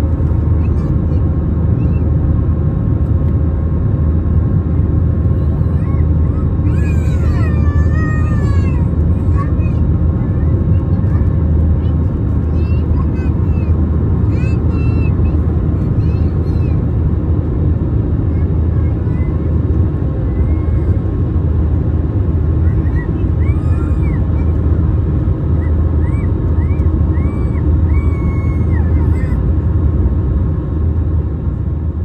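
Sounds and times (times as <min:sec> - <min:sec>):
aircraft cabin engine roar: 0:00.0 - 0:32.0.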